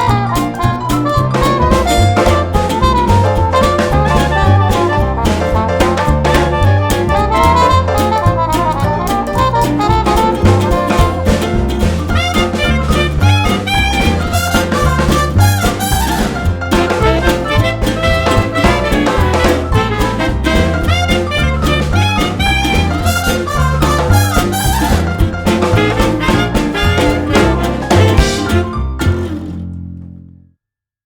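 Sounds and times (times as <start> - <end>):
swing music with brass: 0.0 - 29.9
bass and drums beat: 0.0 - 30.2.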